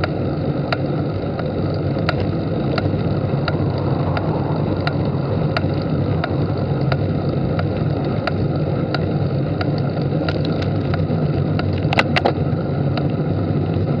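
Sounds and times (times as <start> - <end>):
louder bicycle clicks: 0.0 - 13.2
bicycle ticking: 0.0 - 14.0
road rumble: 0.0 - 14.0
wind: 0.0 - 14.0.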